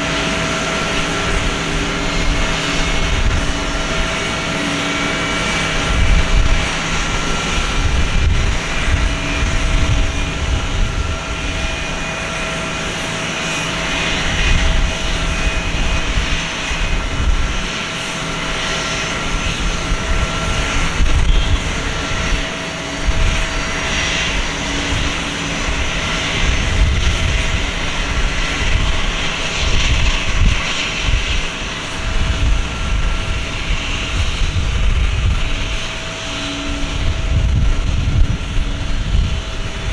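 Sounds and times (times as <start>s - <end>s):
jet turbines whining: 0.0s - 39.9s.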